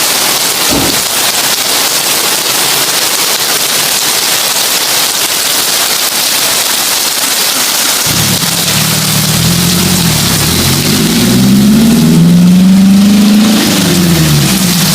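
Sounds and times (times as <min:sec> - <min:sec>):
heavy rain on a tin roof: 0:00.0 - 0:14.9.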